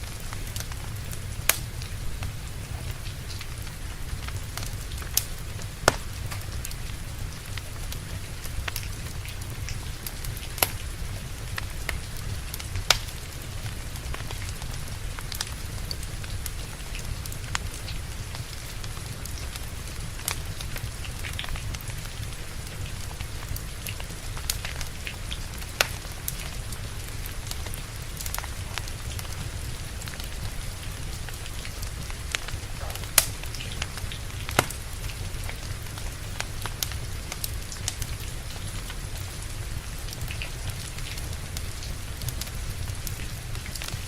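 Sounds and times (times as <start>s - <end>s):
steady rain: 0.0s - 44.0s
wood fire crackling: 0.0s - 44.0s.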